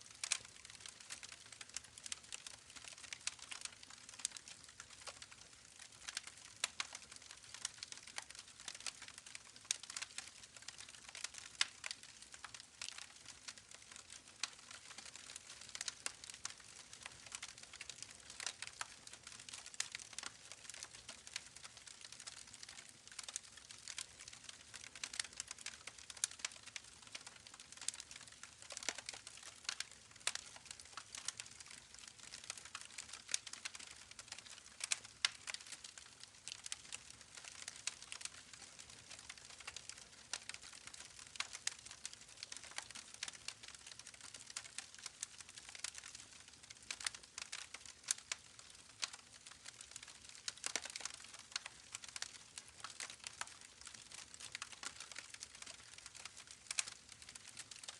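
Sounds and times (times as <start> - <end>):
campfire crackling and popping: 0.1 - 57.9.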